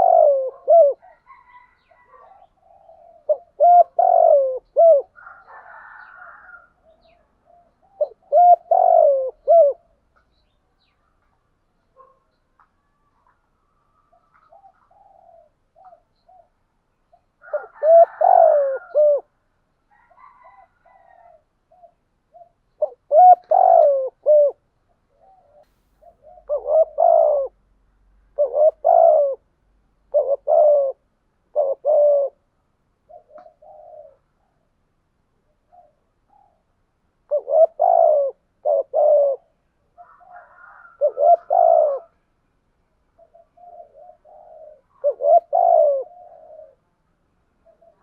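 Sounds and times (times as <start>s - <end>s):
doves cooing: 0.0s - 10.2s, 12.9s - 16.6s, 17.4s - 19.3s, 19.9s - 34.7s, 35.5s - 36.7s, 37.3s - 42.2s, 43.2s - 47.0s, 47.6s - 48.0s.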